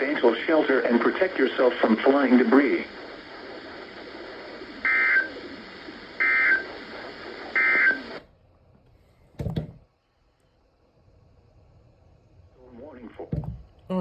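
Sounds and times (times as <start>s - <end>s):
broadcast hiss: 0.0s - 14.0s.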